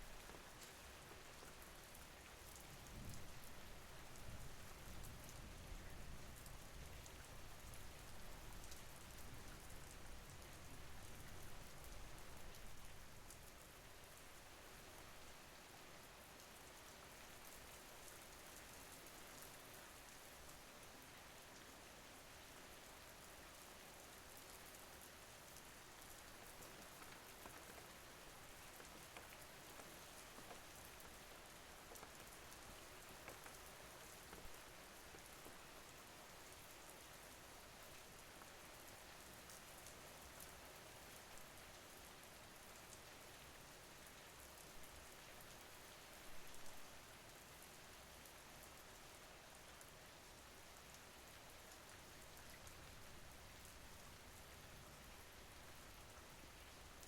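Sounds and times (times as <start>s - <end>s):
faint steady rain: 0.0s - 57.0s.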